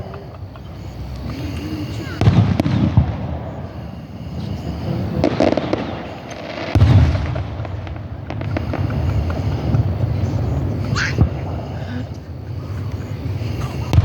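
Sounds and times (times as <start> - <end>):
fireworks booming: 0.0 - 14.0
fireworks crackling: 0.0 - 14.0.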